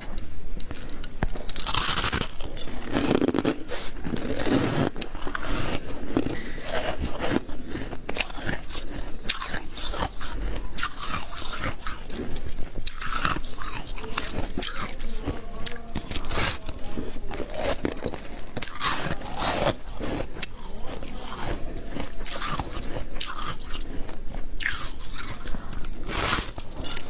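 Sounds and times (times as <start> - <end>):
shaved ice being chewed: 0.0 - 27.0.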